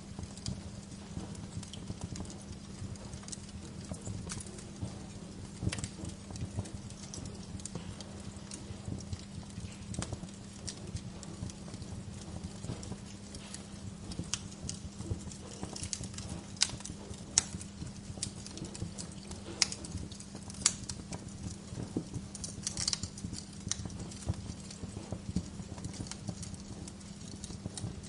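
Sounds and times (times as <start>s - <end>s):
bonfire crackling: 0.0s - 28.0s
burning logs popping: 0.0s - 28.0s
low fire rumble: 0.0s - 28.0s.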